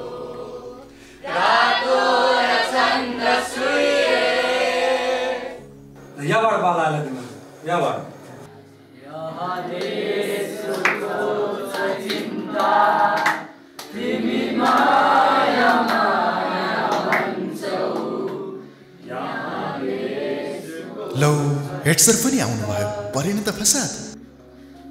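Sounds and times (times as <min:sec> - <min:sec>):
group of people singing: 0:00.0 - 0:05.7, 0:08.9 - 0:23.8.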